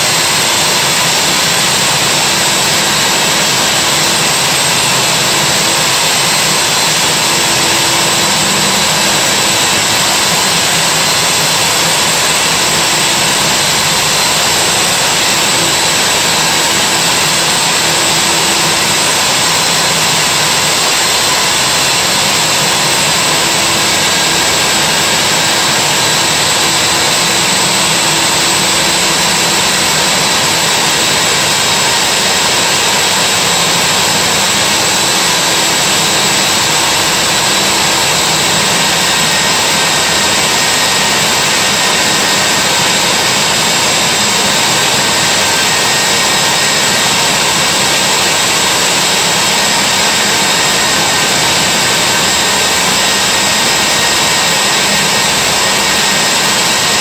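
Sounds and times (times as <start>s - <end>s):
core drill cutting concrete: 0.0s - 57.0s.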